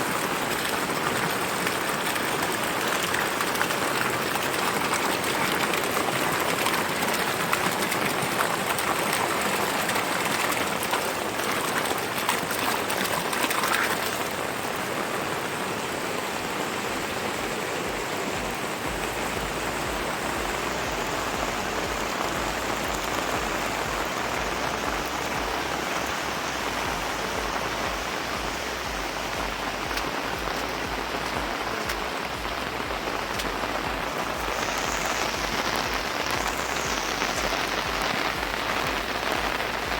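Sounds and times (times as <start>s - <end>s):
water hissing: 0.0s - 39.9s.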